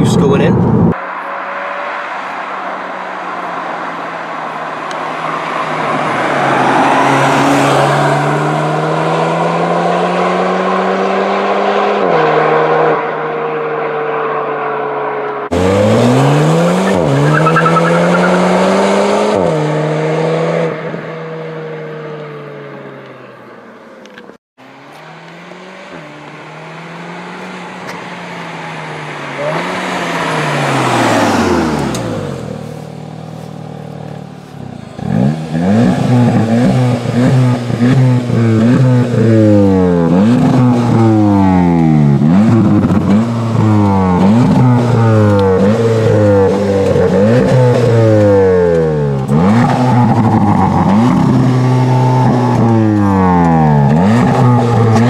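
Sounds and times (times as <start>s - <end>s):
car driving up: 0.0s - 55.0s
car engine revving: 0.0s - 55.0s.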